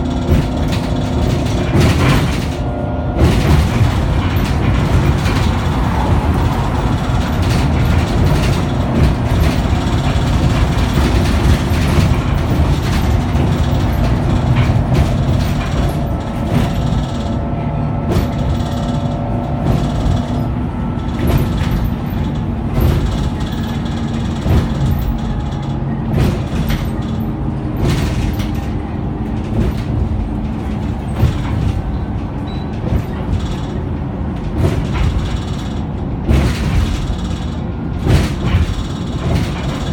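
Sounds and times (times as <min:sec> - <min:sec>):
bus body rattling: 0:00.0 - 0:39.9
bus engine and road rumble: 0:00.0 - 0:39.9.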